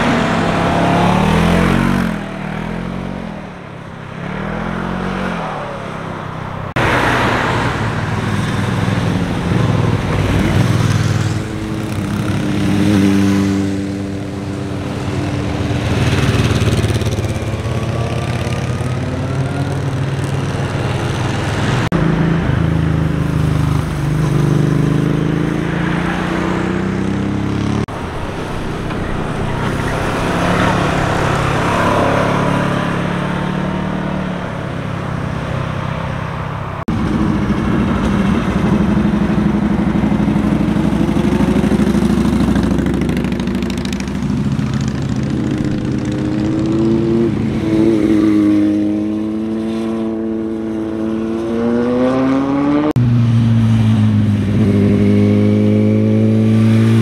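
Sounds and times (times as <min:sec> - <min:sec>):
motorcycle engines accelerating: 0:00.0 - 0:57.0.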